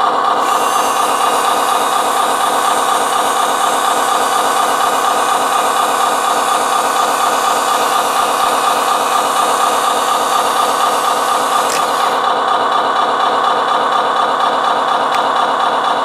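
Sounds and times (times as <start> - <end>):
toy truck diesel engine idling: 0.0 - 16.0.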